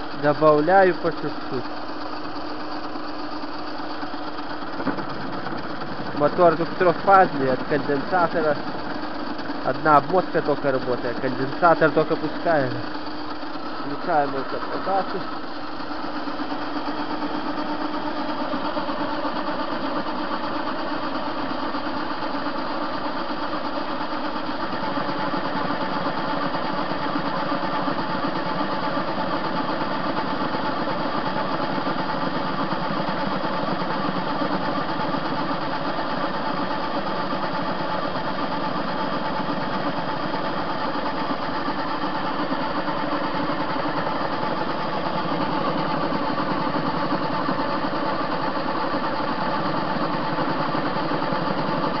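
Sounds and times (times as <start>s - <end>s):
metal lathe whining: 0.0s - 52.0s.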